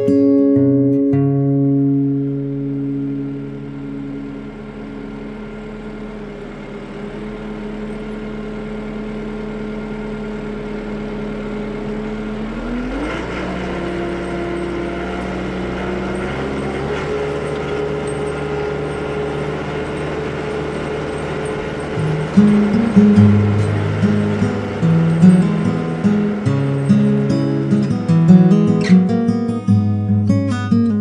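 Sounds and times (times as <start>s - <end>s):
tractor diesel engine revving: 1.4s - 29.7s.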